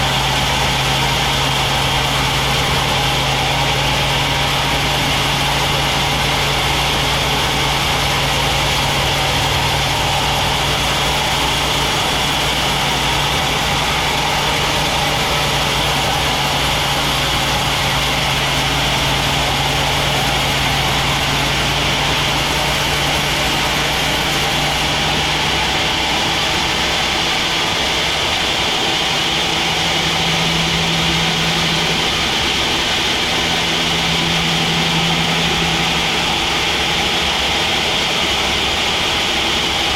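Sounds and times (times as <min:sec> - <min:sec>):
motor humming: 0:00.0 - 0:39.9
saw whining: 0:00.0 - 0:39.9.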